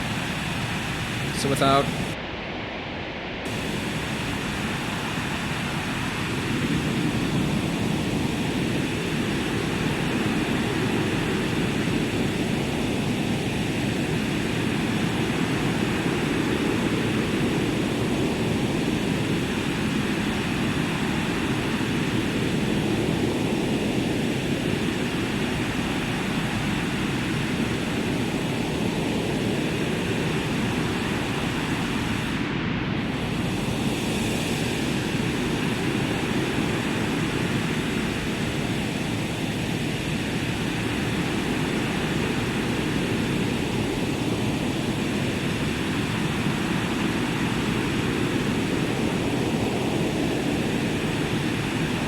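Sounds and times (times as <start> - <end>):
synthesized white noise rushing: 0.0 - 52.0.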